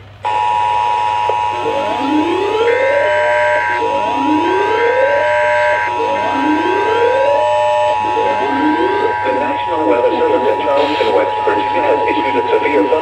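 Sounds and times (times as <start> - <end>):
higher tone switching on and off: 0.2 - 13.0
two-tone attention signal: 0.2 - 13.0
rising siren-like sweep: 0.3 - 13.0.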